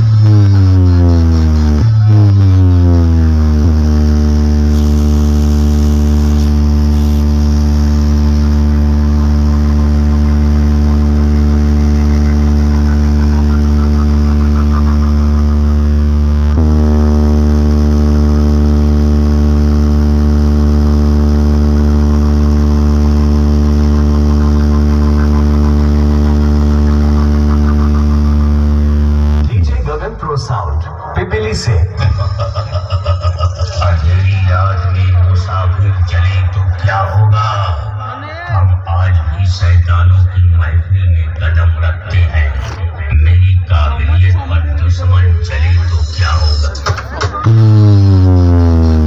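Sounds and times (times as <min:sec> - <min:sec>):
electronic bass drone: 0:00.0 - 0:49.0.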